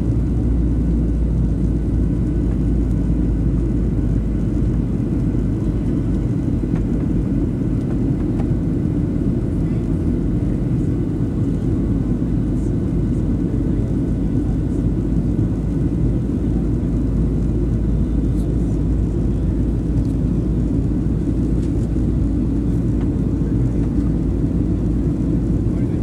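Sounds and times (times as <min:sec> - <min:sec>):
jet engine cabin rumble: 0:00.0 - 0:26.0.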